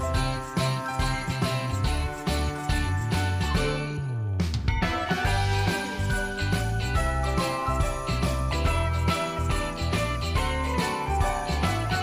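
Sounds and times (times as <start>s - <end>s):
jingling bells: 0.0s - 4.0s, 4.8s - 12.0s
bass line: 0.0s - 12.0s
music with steady beat: 0.0s - 12.0s.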